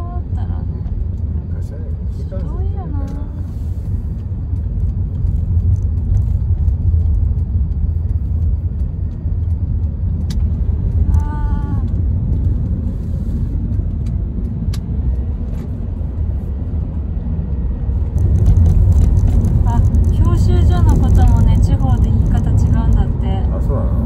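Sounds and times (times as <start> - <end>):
car cabin road rumble: 0.0 - 24.0.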